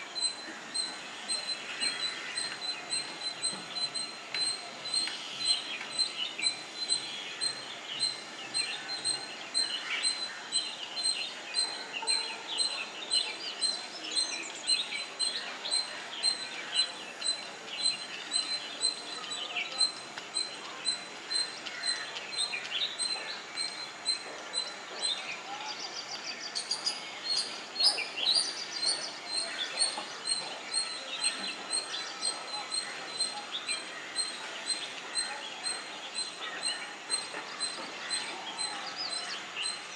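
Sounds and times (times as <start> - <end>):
parakeets chirping: 0.1 - 12.8, 14.7 - 24.7, 27.4 - 39.9.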